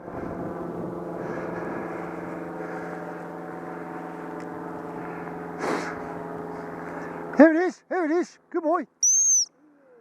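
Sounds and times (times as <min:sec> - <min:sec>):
engine running steadily: 0:00.0 - 0:08.6.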